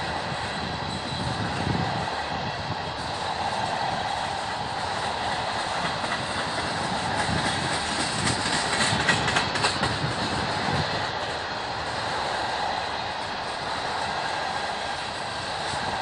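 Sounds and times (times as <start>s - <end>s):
freight train wheels rumbling: 0.0s - 16.0s
sharp train clanks: 0.0s - 16.0s
wheels clickety-clack on joints: 0.0s - 16.0s.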